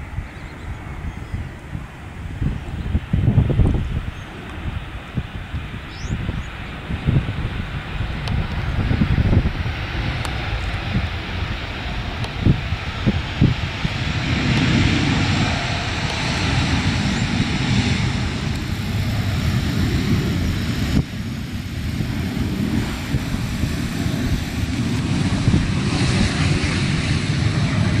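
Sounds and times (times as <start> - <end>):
jet engines rumbling: 0.0 - 28.0
wind buffeting microphone: 0.0 - 28.0.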